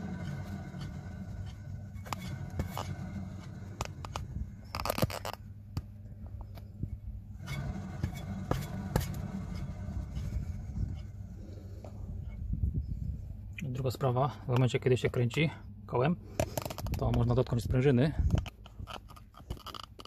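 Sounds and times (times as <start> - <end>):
brake disc scraping pads: 0.0 - 13.2, 16.3 - 17.5, 18.2 - 20.0
wheel bearing rumbling: 0.0 - 14.1, 16.3 - 20.0.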